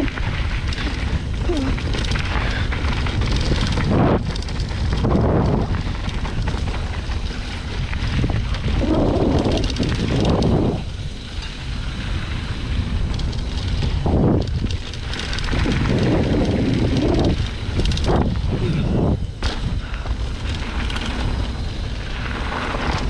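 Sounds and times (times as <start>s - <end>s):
mountain bike rattling: 0.0s - 23.0s
wind buffeting microphone: 0.0s - 23.0s.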